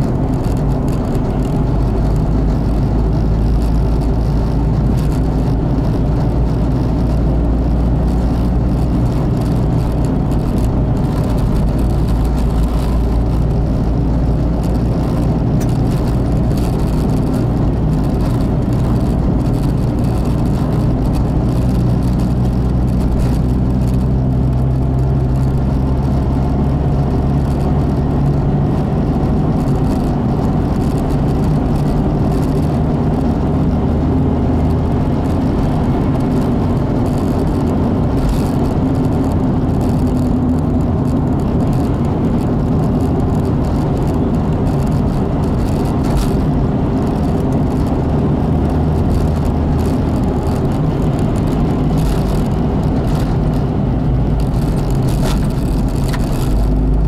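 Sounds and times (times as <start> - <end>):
car engine hum: 0.0 - 57.0
road and tyre rumble: 0.0 - 57.0.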